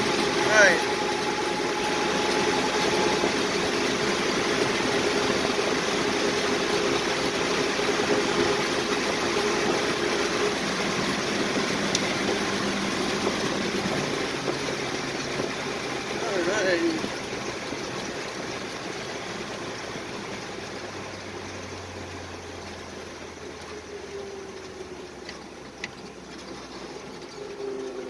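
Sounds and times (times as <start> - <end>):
truck engine and road noise: 0.0 - 28.0.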